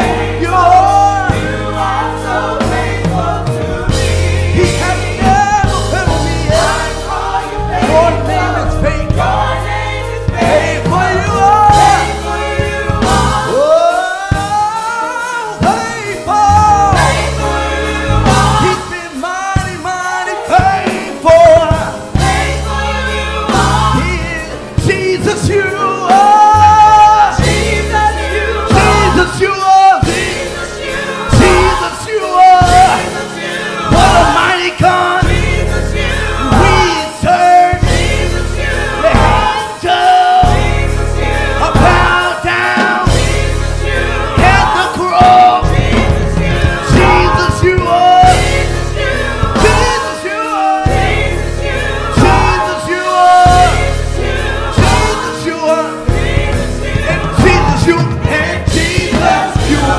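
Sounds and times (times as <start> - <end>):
choir singing: 0.0 - 59.9
instrumental accompaniment with bass: 0.0 - 59.9.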